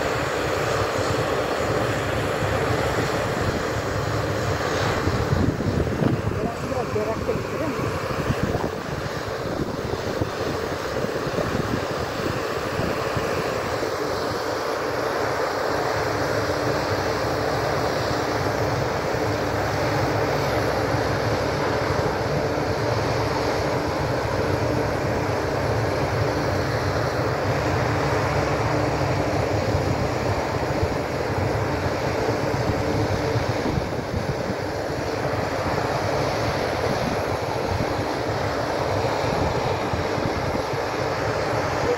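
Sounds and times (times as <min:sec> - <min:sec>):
drilling machinery engine hum: 0:00.0 - 0:41.9
water and air gushing: 0:00.0 - 0:41.9.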